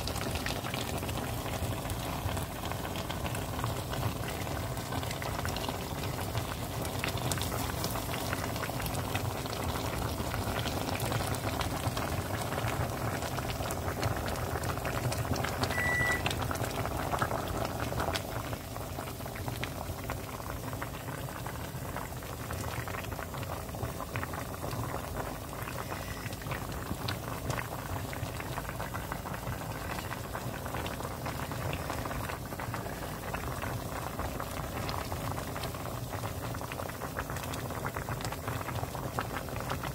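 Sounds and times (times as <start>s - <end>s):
stew bubbling in a pot: 0.0s - 39.9s.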